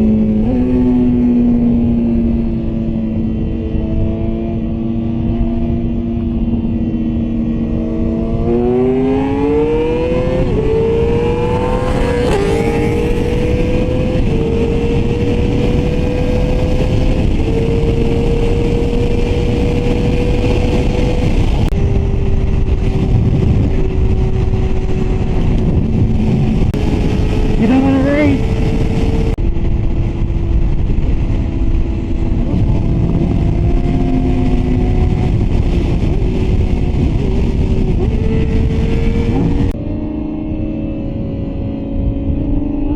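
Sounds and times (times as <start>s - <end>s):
motorcycle engine accelerating: 0.0s - 42.9s
wind rush: 0.0s - 42.9s.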